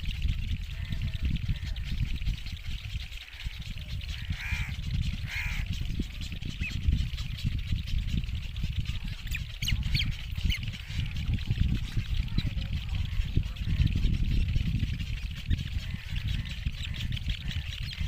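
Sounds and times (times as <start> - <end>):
bird chicks harsh begging calls: 0.0 - 18.0
steady low rumble: 0.0 - 18.0.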